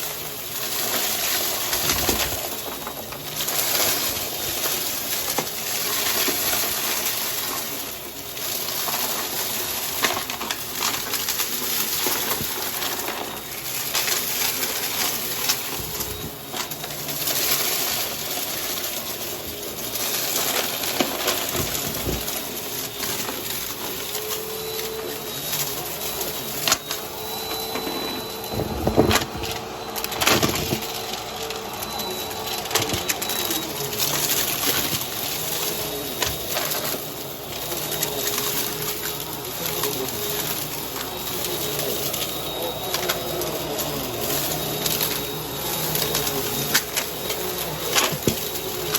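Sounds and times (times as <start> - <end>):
debris clicking and crunching: 0.0 - 48.9
vacuum cleaner running: 0.0 - 48.9.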